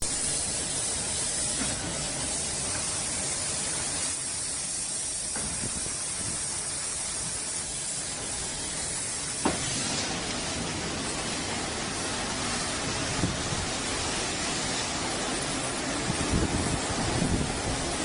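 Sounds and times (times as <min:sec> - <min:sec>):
car wash machine running: 0:00.0 - 0:18.0
water spraying hiss: 0:00.0 - 0:18.0.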